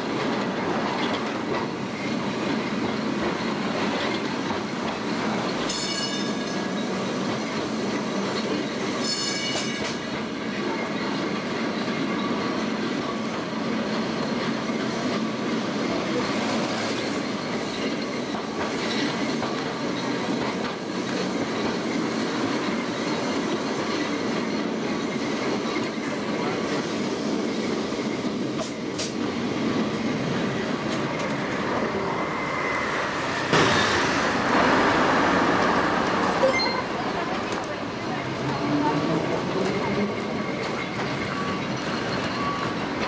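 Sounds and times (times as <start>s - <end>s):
tram rumbling and rattling: 0.0s - 43.0s.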